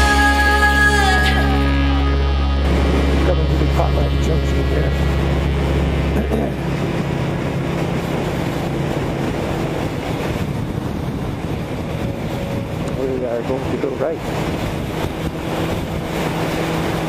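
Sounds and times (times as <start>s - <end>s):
deep low hum: 0.0s - 17.0s
motorcycle engine cruising: 0.0s - 17.0s
wind and road noise: 0.0s - 17.0s.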